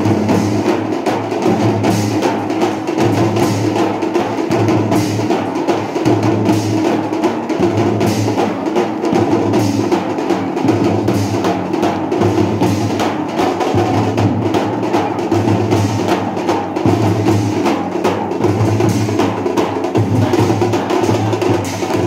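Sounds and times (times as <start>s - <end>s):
fast drumming: 0.0s - 22.0s.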